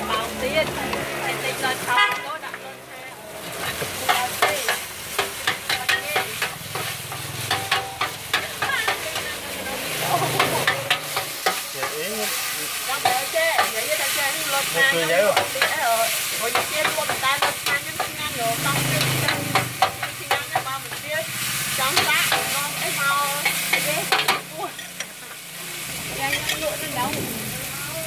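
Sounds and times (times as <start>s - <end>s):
food sizzling: 0.0s - 28.0s.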